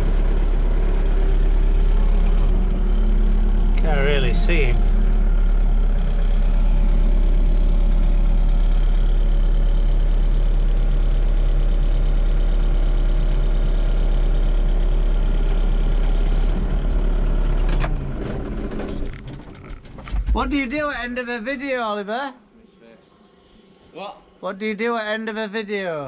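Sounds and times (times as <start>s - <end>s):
engine idling: 0.0s - 21.3s.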